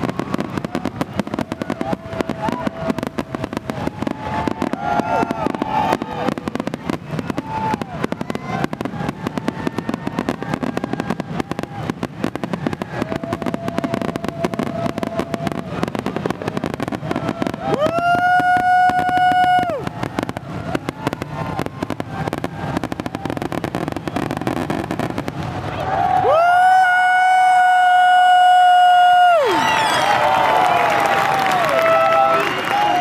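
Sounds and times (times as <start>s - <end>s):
fireworks bursting and crackling: 0.0s - 33.0s
fireworks whistling: 0.0s - 33.0s.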